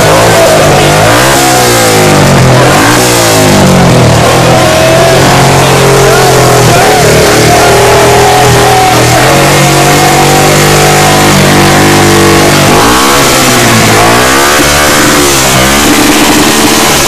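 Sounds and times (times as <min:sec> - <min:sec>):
engines revving hard: 0:00.0 - 0:17.0.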